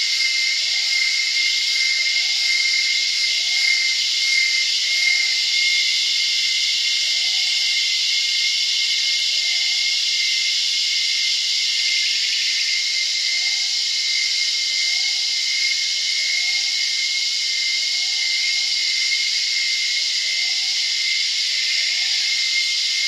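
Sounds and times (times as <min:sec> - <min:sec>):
cicada chorus: 0:00.0 - 0:23.0.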